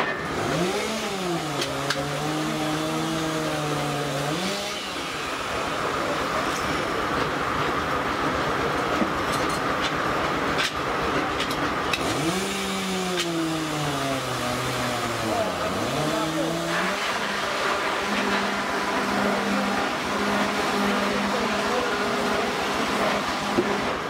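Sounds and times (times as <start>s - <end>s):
sawmill hum: 0.0s - 24.0s.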